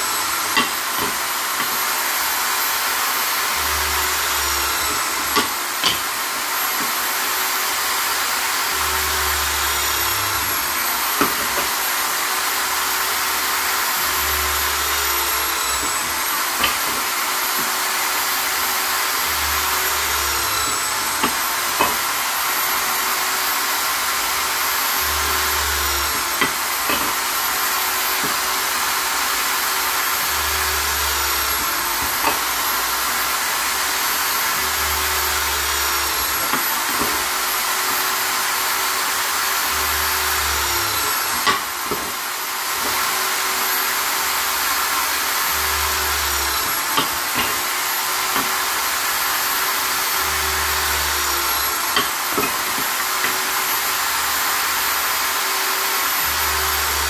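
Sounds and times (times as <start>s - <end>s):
electric drill motor whine: 0.0s - 57.0s.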